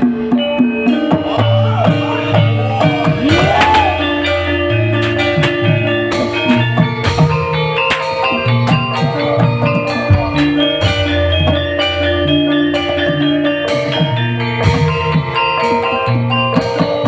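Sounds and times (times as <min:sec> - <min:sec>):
drums: 0:00.0 - 0:17.0
live instrumental band music: 0:00.0 - 0:17.0
struck metal-key percussion: 0:00.0 - 0:17.0
low bass line: 0:00.8 - 0:15.4.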